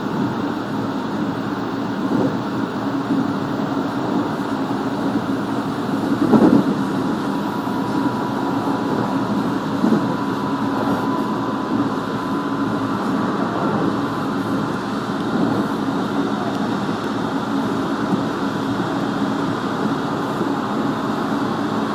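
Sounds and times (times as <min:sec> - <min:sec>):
faint steady whine: 0:00.0 - 0:21.9
train wheels rumbling on rail: 0:00.0 - 0:21.9.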